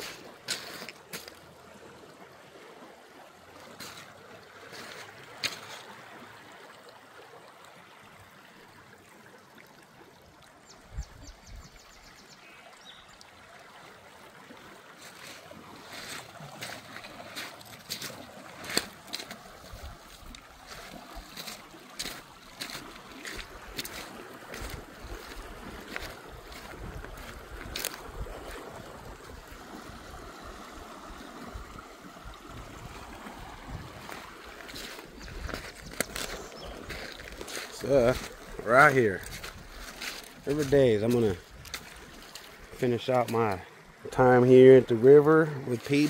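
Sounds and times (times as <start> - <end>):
river water lapping: 0.0 - 46.0.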